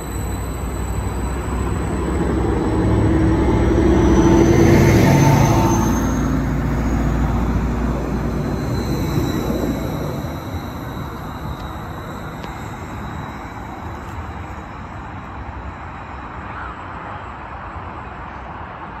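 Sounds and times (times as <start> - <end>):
faint rising whine: 0.0 - 18.7
train engine and wheel rumble: 0.0 - 19.0.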